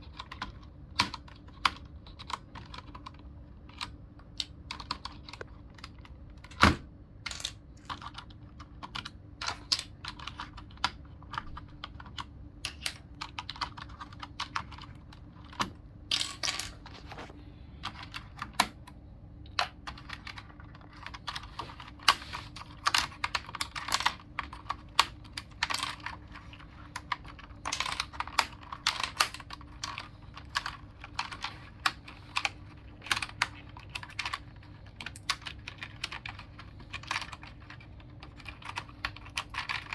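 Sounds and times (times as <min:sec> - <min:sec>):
mechanical keyboard clacking: 0:00.0 - 0:16.4, 0:17.8 - 0:39.9.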